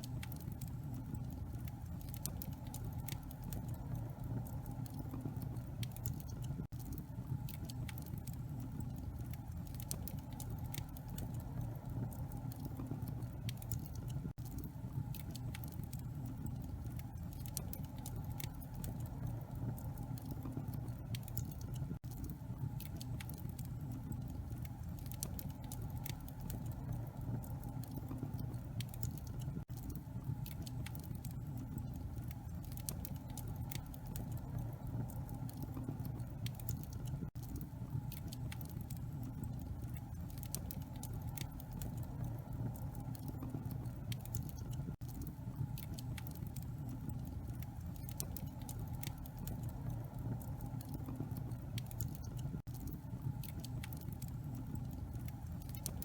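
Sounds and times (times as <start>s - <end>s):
low steady rumble: 0.0s - 56.0s
wood fire crackling: 0.0s - 56.0s.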